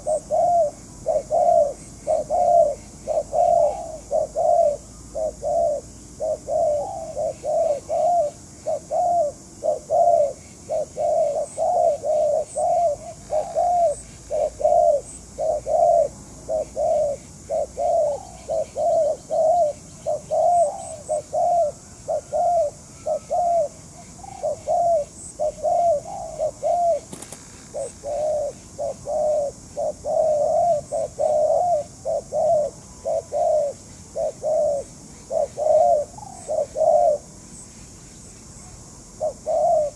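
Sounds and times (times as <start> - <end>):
doves cooing: 0.0 - 37.3, 39.2 - 39.9.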